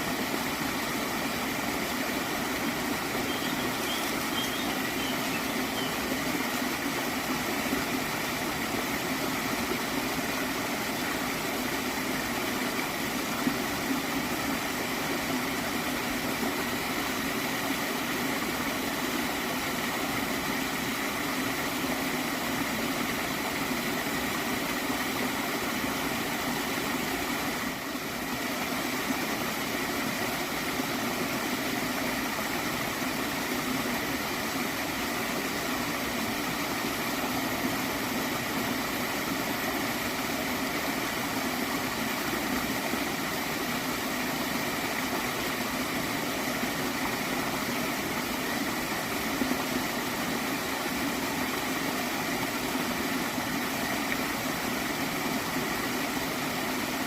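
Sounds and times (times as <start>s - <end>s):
water stream flowing: 0.0s - 57.0s.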